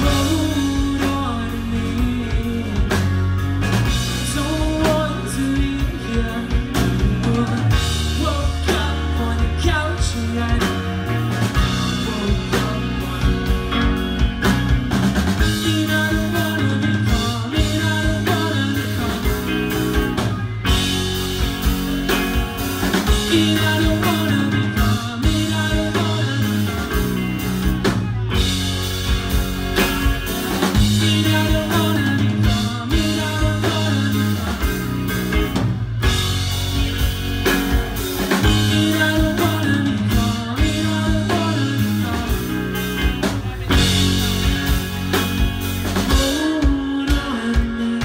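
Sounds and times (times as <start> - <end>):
bass guitar: 0.0 - 48.0
drum kit: 0.0 - 48.0
guitars: 0.0 - 48.0.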